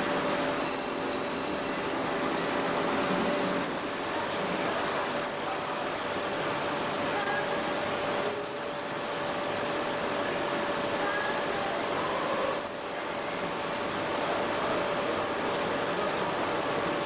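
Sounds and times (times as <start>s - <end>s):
winding machinery running: 0.0s - 17.0s.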